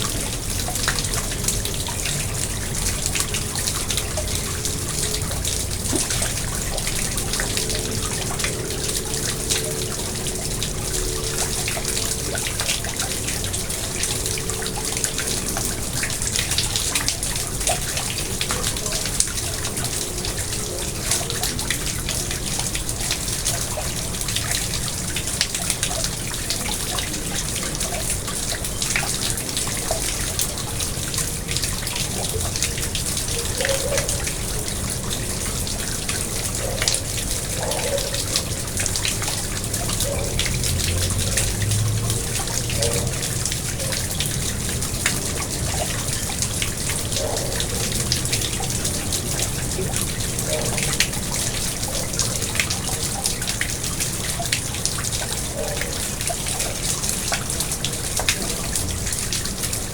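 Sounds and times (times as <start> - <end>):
small water drips: 0.0 - 59.9
water splashing into pond: 0.0 - 59.9.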